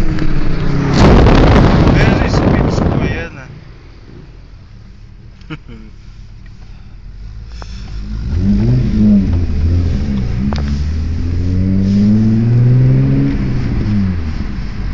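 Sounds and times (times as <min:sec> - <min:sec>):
car engine accelerating: 0:00.0 - 0:04.1, 0:04.7 - 0:14.9.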